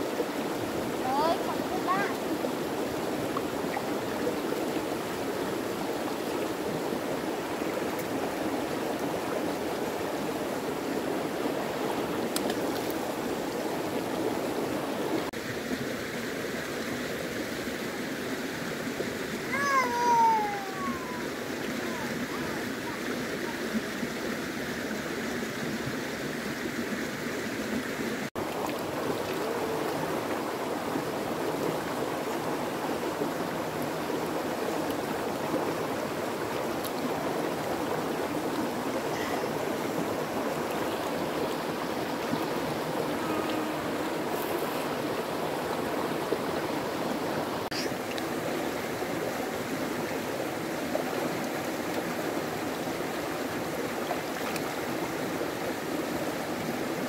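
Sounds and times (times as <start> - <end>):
rushing stream water: 0.0 - 57.0.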